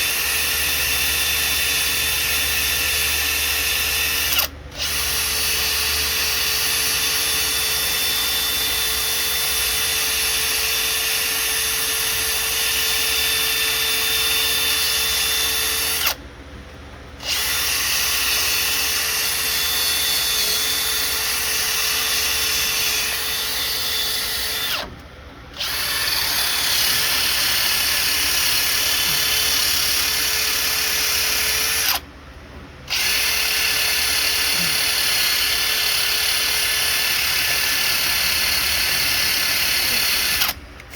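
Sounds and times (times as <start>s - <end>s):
handheld power tool scrubbing metal: 0.0s - 16.2s, 17.2s - 24.9s, 25.6s - 32.0s, 32.9s - 40.6s.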